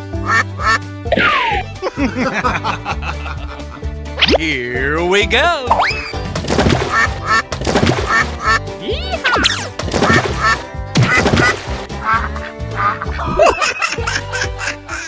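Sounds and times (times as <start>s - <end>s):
playful background music: 0.0s - 15.0s.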